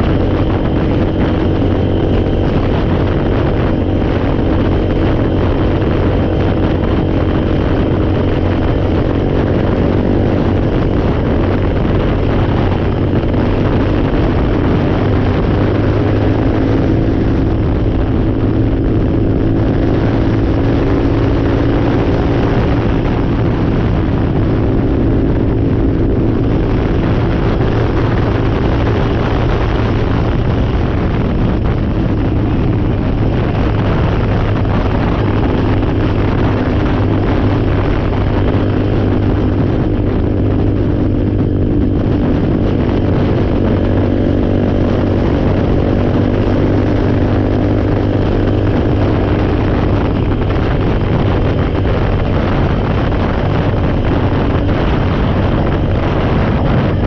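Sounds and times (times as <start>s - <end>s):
atv engine running: 0.0s - 57.0s
wind on microphone: 0.0s - 57.0s.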